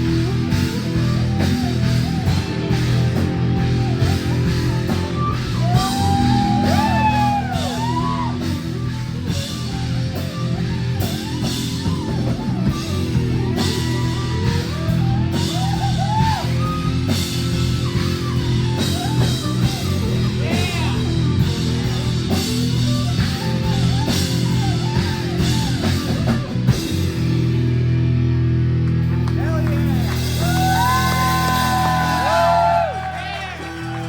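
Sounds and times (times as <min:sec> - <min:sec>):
drum kit with cymbals: 0:00.0 - 0:34.0
electric guitar: 0:00.0 - 0:34.0.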